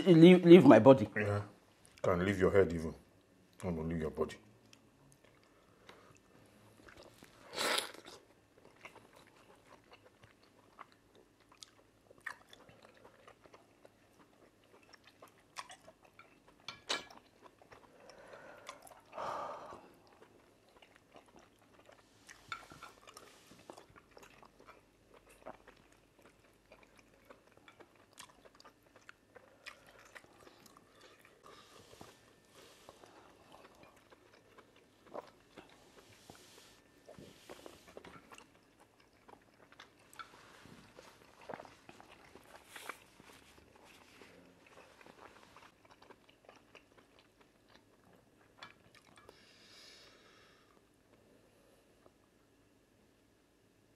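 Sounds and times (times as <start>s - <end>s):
chewing: 4.6s - 49.4s.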